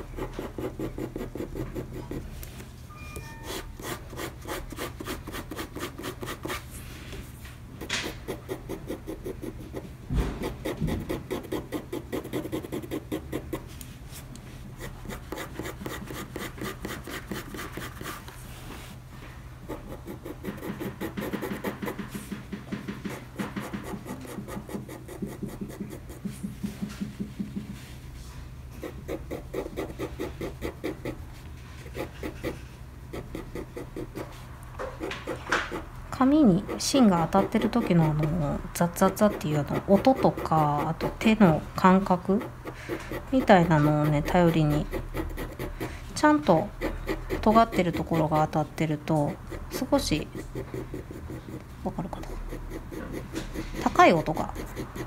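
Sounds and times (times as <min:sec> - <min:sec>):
pencil scratching on paper: 0:00.0 - 0:02.3, 0:03.4 - 0:06.7, 0:08.0 - 0:13.7, 0:14.8 - 0:18.3, 0:19.7 - 0:22.4, 0:23.0 - 0:26.4, 0:28.8 - 0:31.2, 0:31.8 - 0:34.4, 0:35.0 - 0:55.0.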